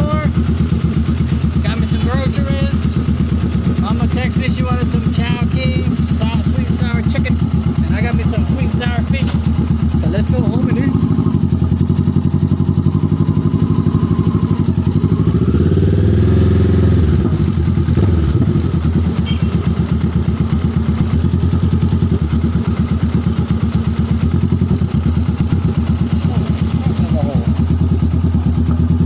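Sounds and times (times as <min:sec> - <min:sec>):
motorcycle engine chugging: 0:00.0 - 0:29.0.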